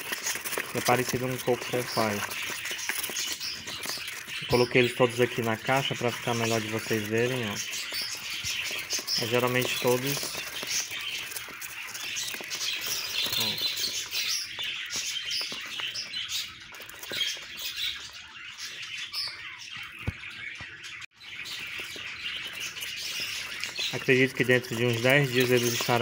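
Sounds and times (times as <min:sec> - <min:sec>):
budgerigars chirping: 0:00.0 - 0:26.0.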